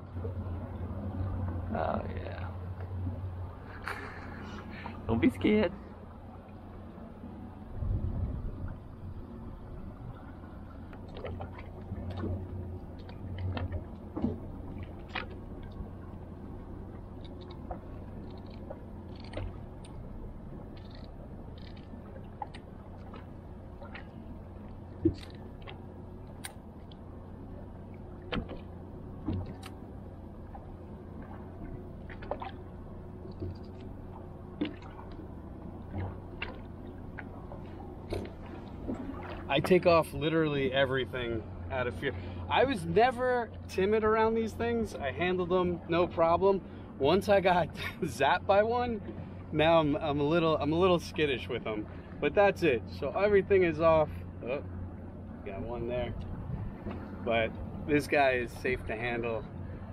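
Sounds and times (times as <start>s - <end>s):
low hum: 0.0s - 59.9s
low rumble of water and wind: 0.0s - 59.9s.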